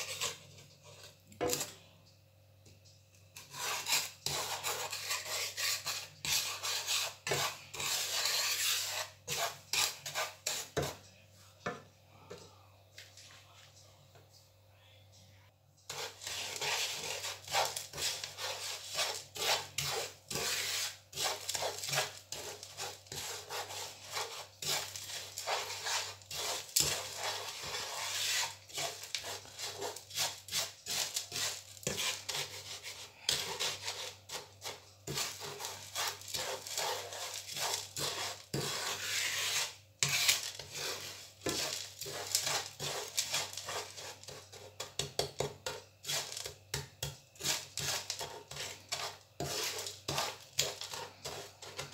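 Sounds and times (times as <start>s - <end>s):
wooden spoon scraping sugar in pan: 0.0s - 1.8s, 3.4s - 11.1s, 15.9s - 51.9s.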